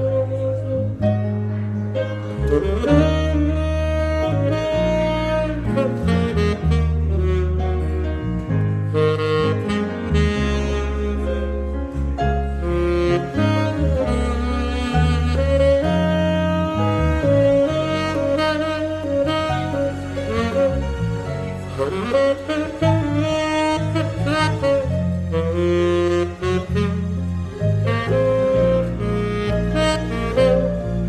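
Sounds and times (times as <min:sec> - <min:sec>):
electric bass line: 0:00.0 - 0:31.0
saxophone melody: 0:00.0 - 0:31.0.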